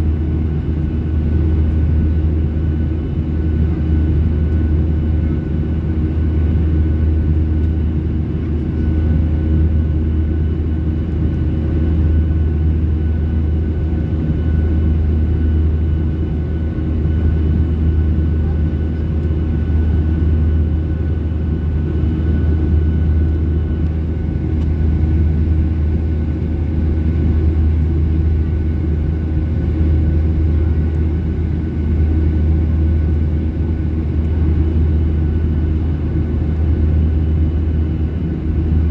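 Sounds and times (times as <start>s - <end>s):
aircraft cabin engine drone: 0.0s - 38.9s.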